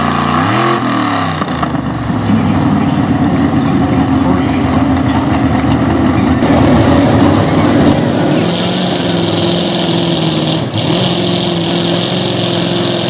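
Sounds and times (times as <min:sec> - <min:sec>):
tractor engine running hard: 0:00.0 - 0:13.0
tractor engine running steadily: 0:00.0 - 0:13.0.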